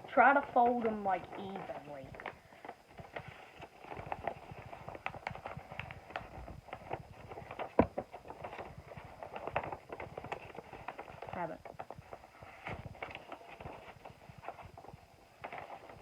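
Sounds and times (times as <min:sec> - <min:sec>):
paper crackling and rustling: 0:00.0 - 0:16.0.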